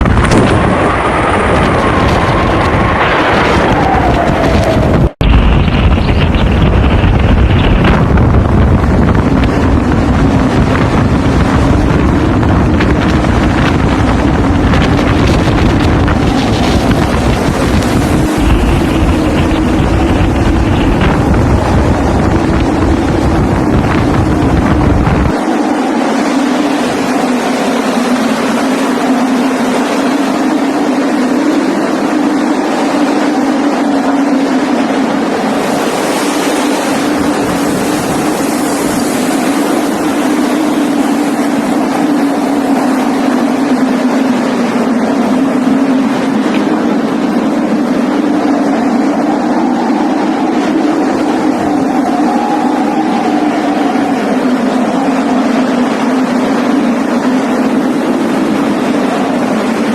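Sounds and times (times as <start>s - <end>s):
low drone: 0.0s - 59.9s
strong wind blowing: 0.0s - 59.9s
wind rumble on microphone: 0.0s - 59.9s.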